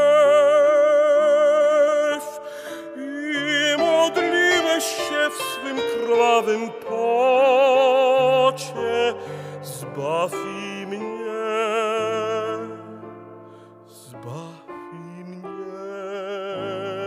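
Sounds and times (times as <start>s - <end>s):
slow worship song: 0.0s - 17.0s.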